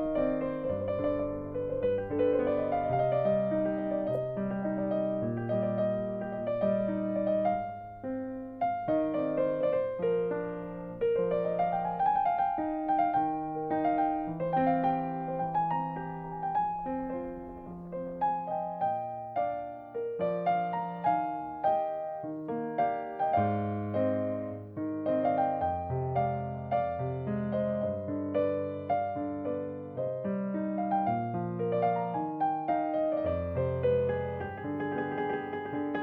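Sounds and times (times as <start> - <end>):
slow piano piece: 0.0 - 36.0.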